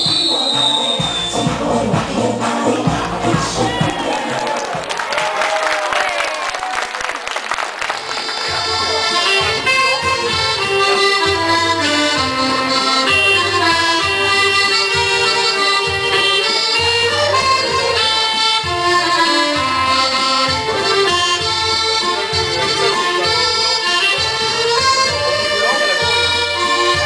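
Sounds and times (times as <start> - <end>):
accordion playing dance tune: 0.0 - 4.4, 7.8 - 27.0.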